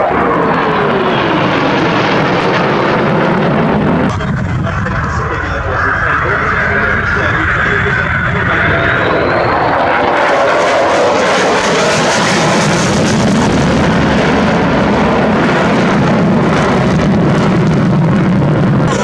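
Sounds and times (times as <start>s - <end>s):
jet fighter flying past: 0.0s - 19.0s.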